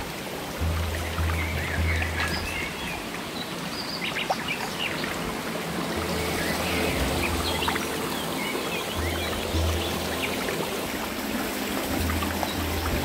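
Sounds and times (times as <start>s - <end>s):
soft background music: 0.0s - 13.0s
stream running over stones: 0.0s - 13.0s
small birds chirping: 0.6s - 13.0s.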